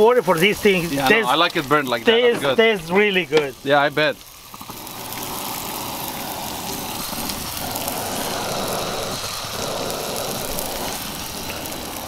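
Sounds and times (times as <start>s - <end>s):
camp stove burning with rushing hiss: 0.0s - 12.0s.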